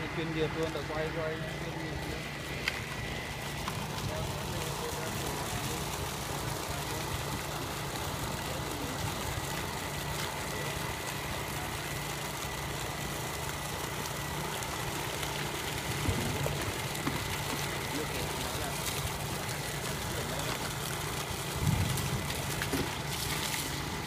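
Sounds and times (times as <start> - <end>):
water pump humming: 0.0 - 24.0.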